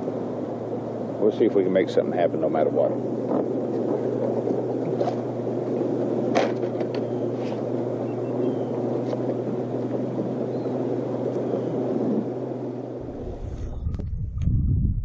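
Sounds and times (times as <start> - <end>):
choppy water: 0.0 - 15.0
steady low hum: 0.0 - 15.0
wind rumbling on microphone: 0.0 - 15.0.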